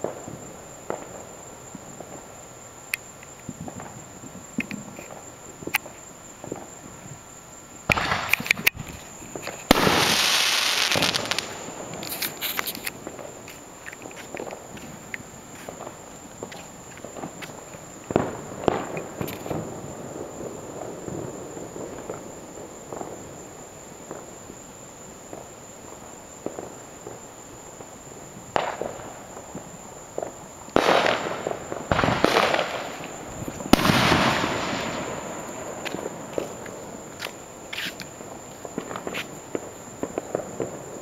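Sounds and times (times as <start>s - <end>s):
fireworks bangs: 0.0s - 2.5s, 3.2s - 7.2s, 7.8s - 23.4s, 27.8s - 41.0s.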